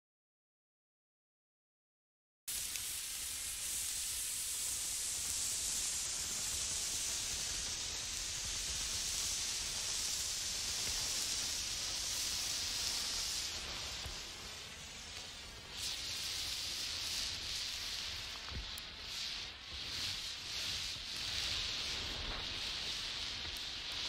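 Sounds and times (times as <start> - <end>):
high-pitched static hiss: 2.5 - 24.0.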